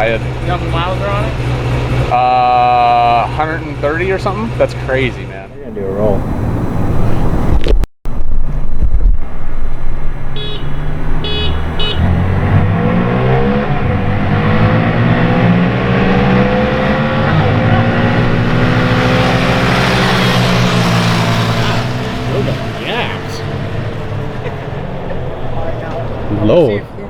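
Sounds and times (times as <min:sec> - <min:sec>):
engine accelerating: 0:00.0 - 0:07.6, 0:08.4 - 0:27.0.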